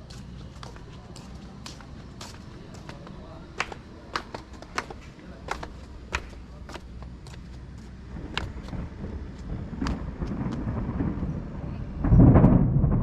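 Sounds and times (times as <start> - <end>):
motor vehicle approaching: 0.0 - 12.4.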